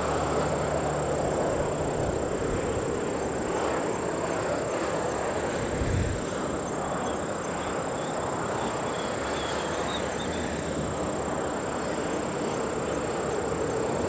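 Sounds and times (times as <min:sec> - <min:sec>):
distant jet engine rumble: 0:00.0 - 0:14.0.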